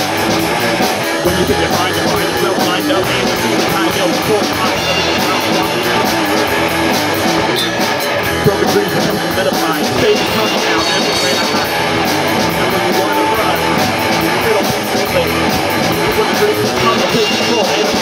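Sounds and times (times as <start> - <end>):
drum kit steady beat: 0.0 - 18.0
electric bass: 0.0 - 18.0
electric guitars: 0.0 - 18.0.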